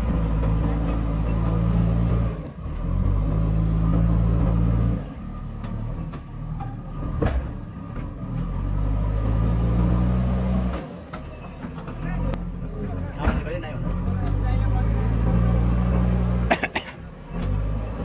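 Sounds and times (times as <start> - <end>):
diesel engine under hydraulic load: 0.0 - 18.0.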